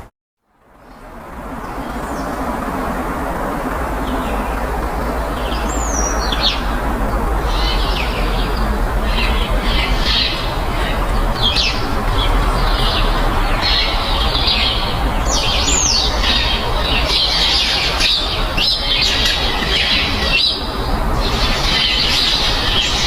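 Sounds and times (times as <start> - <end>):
birds chirping and squawking: 4.0 - 23.0.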